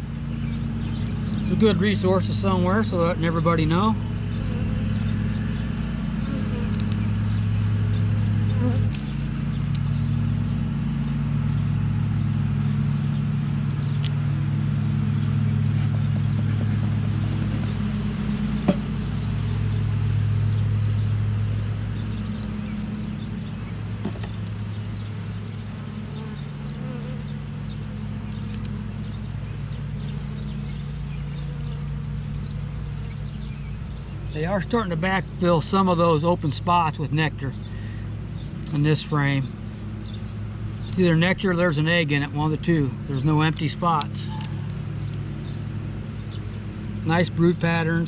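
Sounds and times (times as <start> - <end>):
honeybees buzzing: 0.0 - 48.0.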